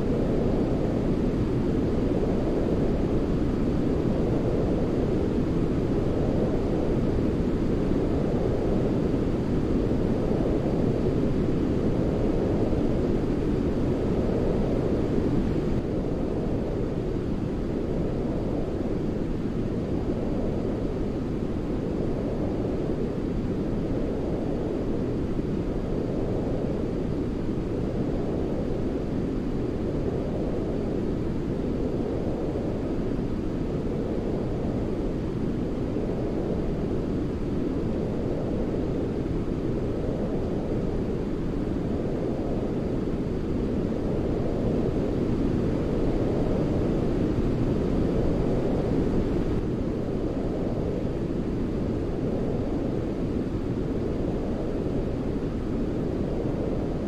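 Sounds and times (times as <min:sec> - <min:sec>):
deep rumbling white noise: 0:00.0 - 0:57.0.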